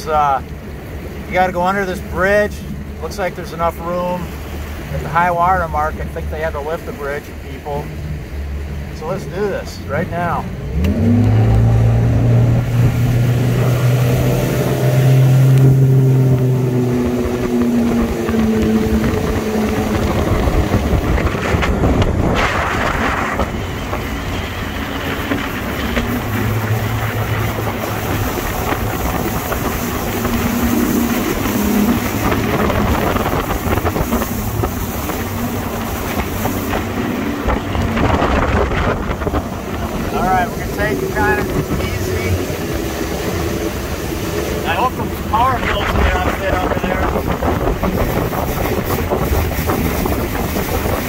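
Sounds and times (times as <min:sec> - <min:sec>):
outboard motor humming: 0:00.0 - 0:51.0
rushing water: 0:00.0 - 0:51.0
wind: 0:00.0 - 0:51.0.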